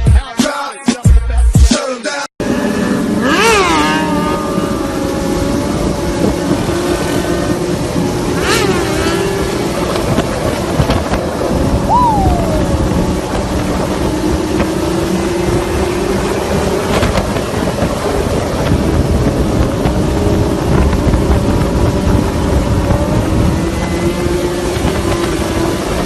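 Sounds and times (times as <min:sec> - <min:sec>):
motorcycle engine running: 0:02.4 - 0:26.0
wind rumble on microphone: 0:03.6 - 0:26.0.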